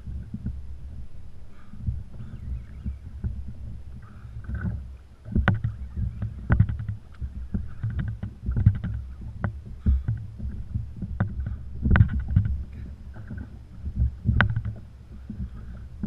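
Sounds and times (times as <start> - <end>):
low rumble: 0.0 - 16.0
water sloshing against kayak hull: 0.0 - 16.0
fishing gear clicks and knocks: 1.7 - 16.0.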